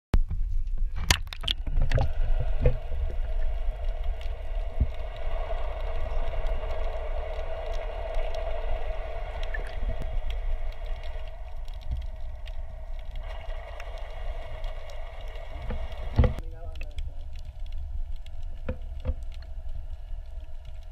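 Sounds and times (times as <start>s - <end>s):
low underwater rumble: 0.2s - 20.9s.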